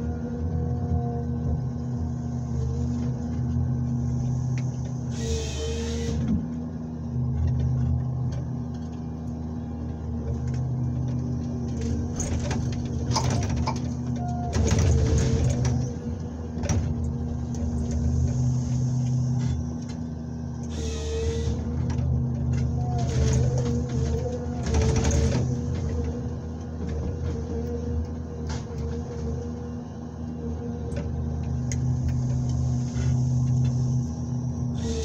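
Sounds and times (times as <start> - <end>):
engine running steadily: 0.0 - 35.0
hydraulics working: 0.0 - 35.0.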